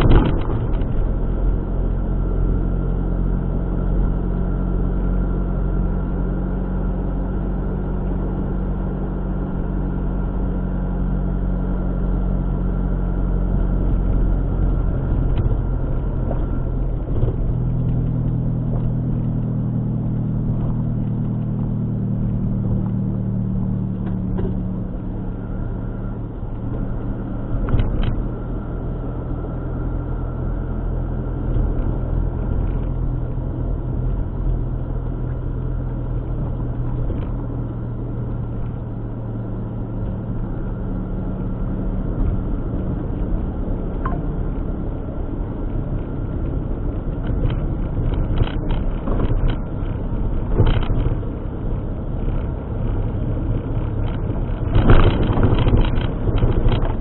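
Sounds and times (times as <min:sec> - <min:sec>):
car engine hum: 0:00.0 - 0:57.0
road noise: 0:00.0 - 0:57.0.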